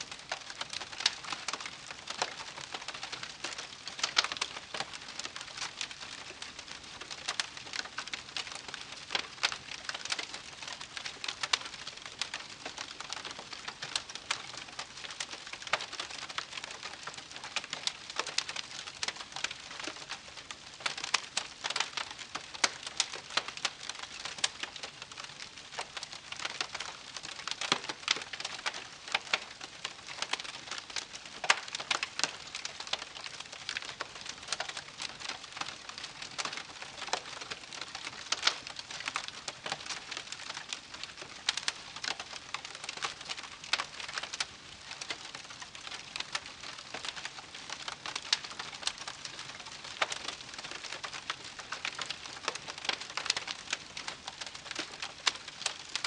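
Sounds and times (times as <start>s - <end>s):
campfire crackling: 0.1s - 56.0s.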